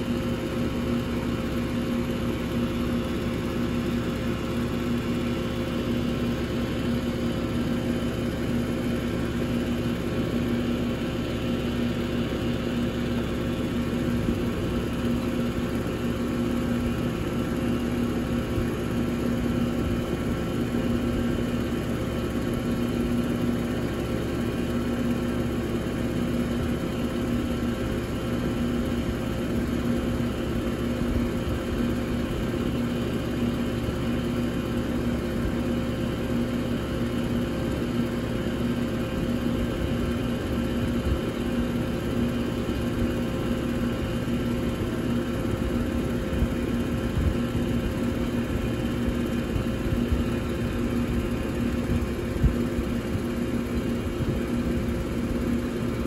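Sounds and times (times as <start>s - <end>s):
air conditioner running: 0.0s - 56.0s.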